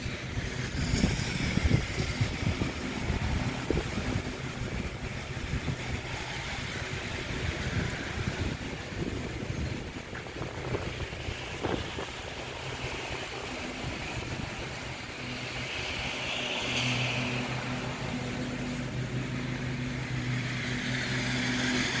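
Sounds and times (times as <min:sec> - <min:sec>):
steady engine hum: 0:00.0 - 0:22.0.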